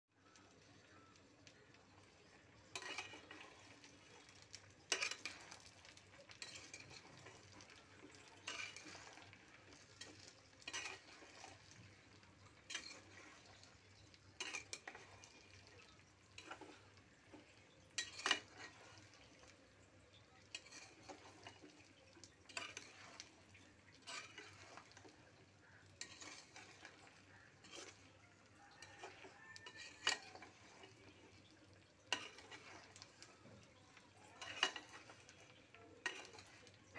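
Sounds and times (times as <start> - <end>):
metal spatula scraping a pot: 1.8 - 36.9.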